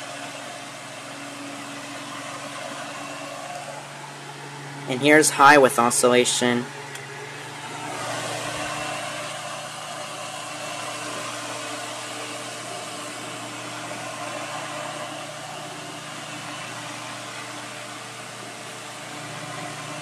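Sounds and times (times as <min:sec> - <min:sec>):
table fan running: 0:00.0 - 0:20.0.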